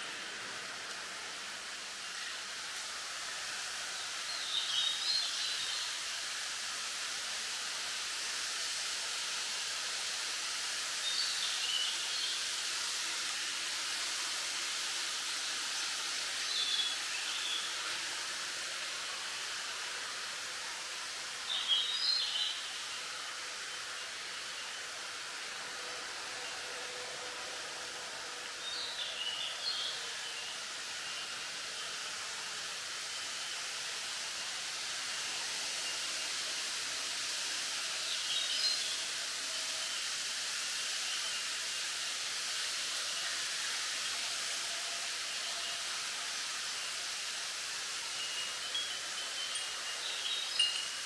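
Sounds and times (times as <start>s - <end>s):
wind rustling bamboo leaves: 0.0s - 51.0s.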